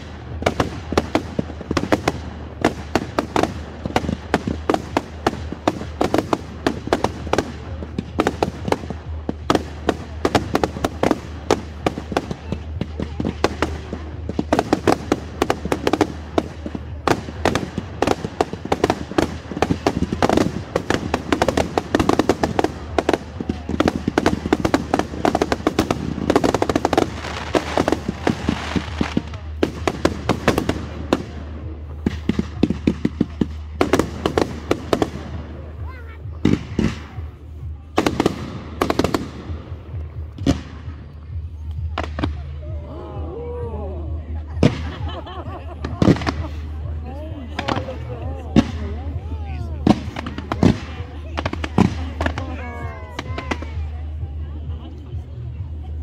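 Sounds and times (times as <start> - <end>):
fireworks bangs and pops: 0.0 - 42.8, 44.2 - 56.0.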